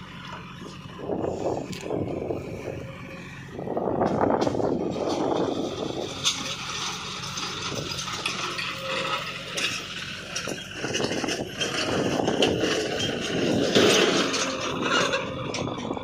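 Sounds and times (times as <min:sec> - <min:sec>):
diesel engine running: 0:00.0 - 0:16.0
metallic rattling and scraping: 0:00.0 - 0:16.0.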